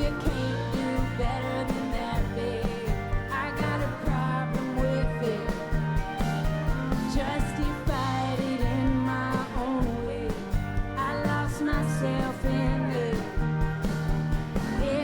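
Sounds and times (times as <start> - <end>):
live rock band playing: 0.0 - 15.0
steady drumbeat: 0.0 - 15.0.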